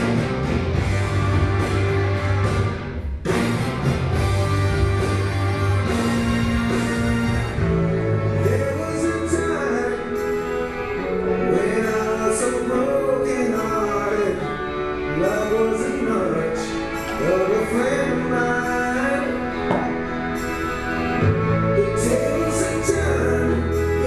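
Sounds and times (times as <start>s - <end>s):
song with singing voice: 4.2s - 24.0s.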